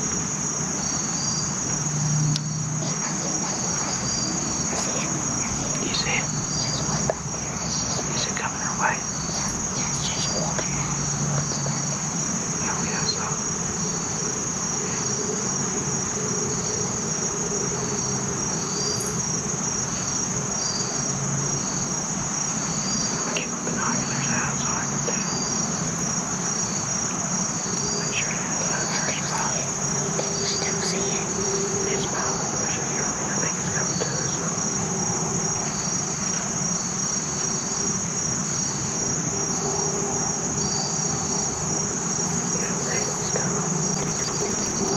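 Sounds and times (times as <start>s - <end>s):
insect chirps: 0.0s - 44.9s
insects buzzing: 0.0s - 44.9s.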